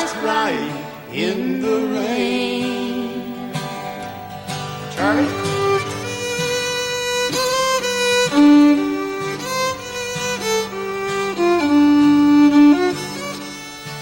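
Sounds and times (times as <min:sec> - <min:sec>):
country fiddle melody: 0:00.0 - 0:14.0
sustained lower accompaniment: 0:00.0 - 0:14.0.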